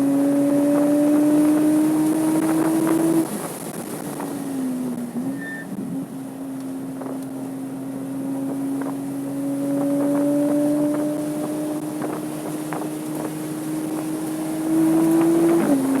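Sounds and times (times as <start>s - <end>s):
sports car engine: 0.0s - 16.0s.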